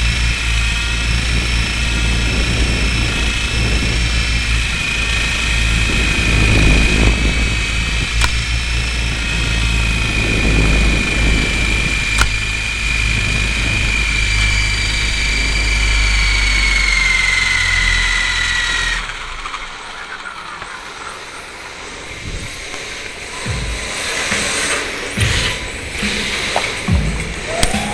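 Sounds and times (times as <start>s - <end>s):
helicopter motor whine: 0.0s - 27.9s
low rotor rumble: 0.0s - 27.9s.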